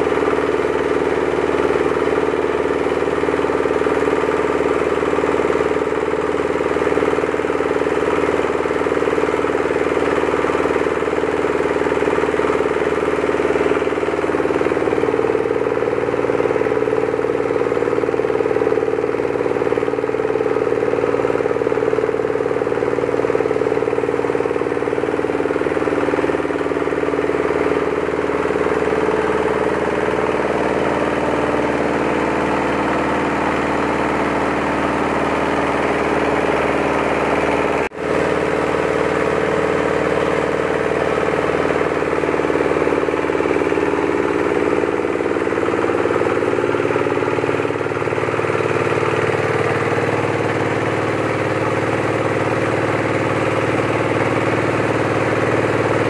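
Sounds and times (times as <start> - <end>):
diesel engine running: 0.0 - 56.0
rice mill milling: 0.0 - 56.0.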